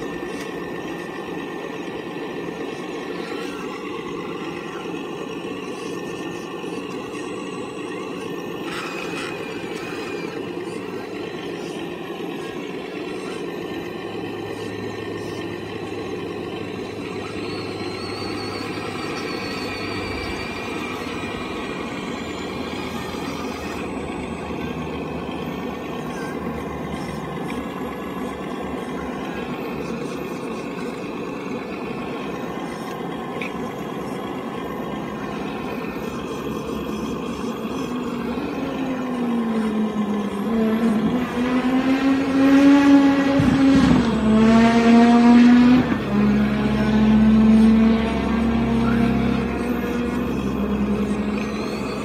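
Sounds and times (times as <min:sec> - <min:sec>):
hydraulic pump whining: 0:00.0 - 0:52.0.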